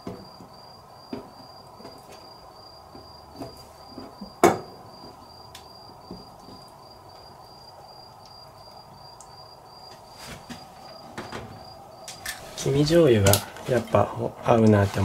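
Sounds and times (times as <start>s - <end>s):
cricket chirping: 0.0s - 14.6s.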